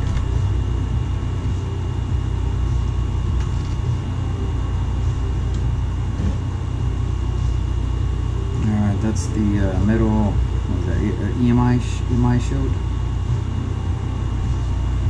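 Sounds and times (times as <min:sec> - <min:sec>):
steady low rumble: 0:00.0 - 0:15.0
thin high whine: 0:00.0 - 0:15.0.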